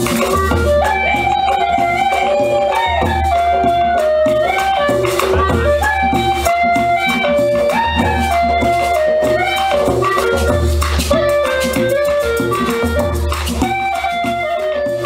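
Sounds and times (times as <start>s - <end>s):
latin dance music: 0.0s - 15.0s.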